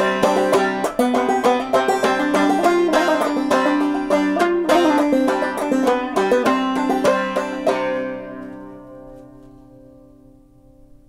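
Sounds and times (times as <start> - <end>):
banjo plucked notes: 0.0 - 11.0.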